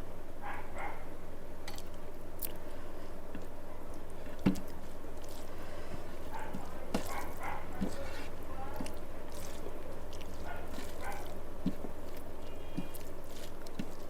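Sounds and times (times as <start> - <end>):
chewing and squishing food: 1.7 - 14.0.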